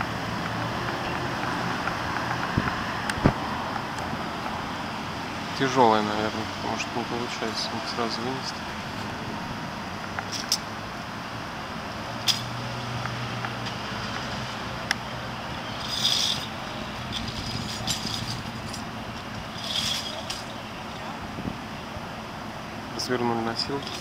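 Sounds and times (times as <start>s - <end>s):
low vehicle hum: 0.0s - 24.0s.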